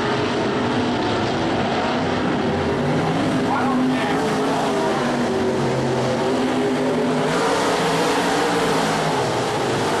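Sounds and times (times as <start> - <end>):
race car engines running hard: 0.0 - 10.0.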